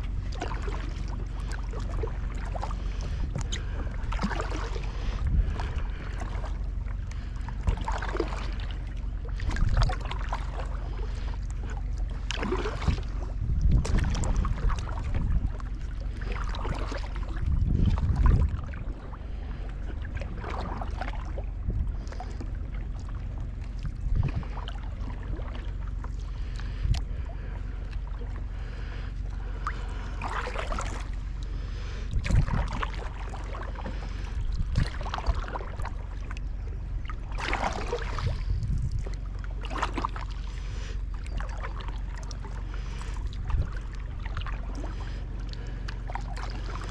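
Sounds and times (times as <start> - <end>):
low rumble: 0.0 - 46.9
paddle splashing through water: 0.0 - 46.9.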